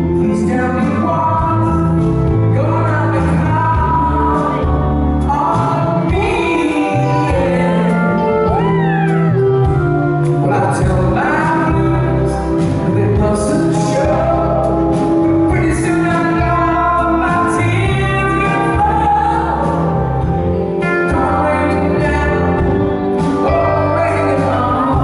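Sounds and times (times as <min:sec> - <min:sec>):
band with electric guitar and keyboards: 0:00.0 - 0:25.0
man singing live: 0:00.0 - 0:25.0.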